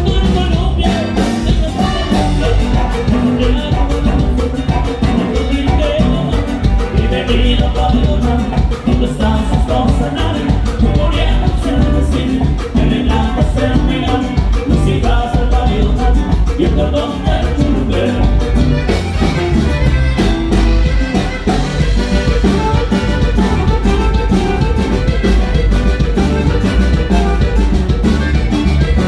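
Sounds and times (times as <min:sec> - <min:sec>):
band with saxophone: 0:00.0 - 0:29.0
steady bass line: 0:00.0 - 0:29.0.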